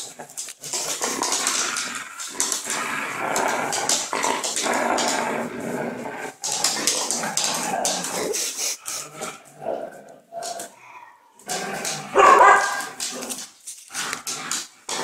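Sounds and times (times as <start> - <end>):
dogs growling playfully: 0.0 - 15.0.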